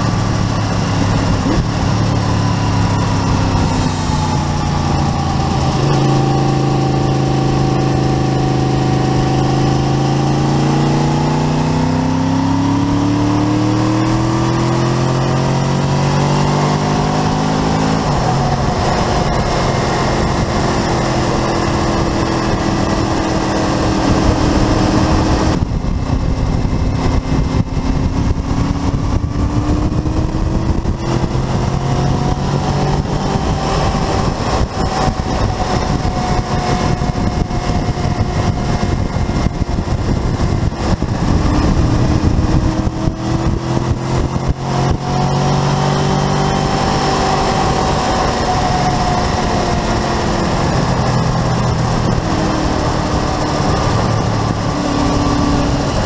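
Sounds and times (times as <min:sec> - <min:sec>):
motorcycle engine running: 0:00.0 - 0:56.0
wind rush: 0:00.0 - 0:56.0.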